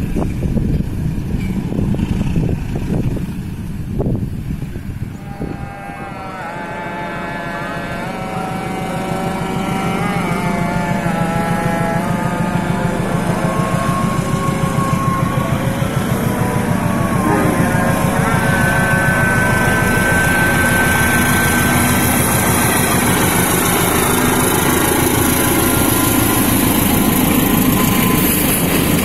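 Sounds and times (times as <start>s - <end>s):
diesel locomotive engine throbbing: 0.0s - 29.0s.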